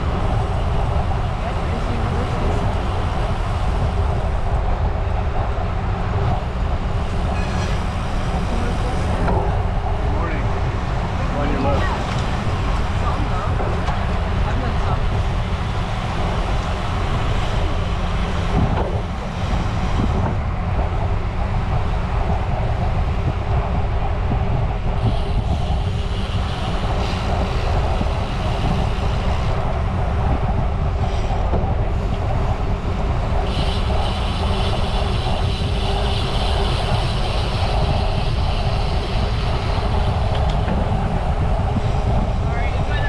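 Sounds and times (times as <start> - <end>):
bicycle tyre and road noise: 0.0 - 43.0
wind buffeting microphone: 0.0 - 43.0.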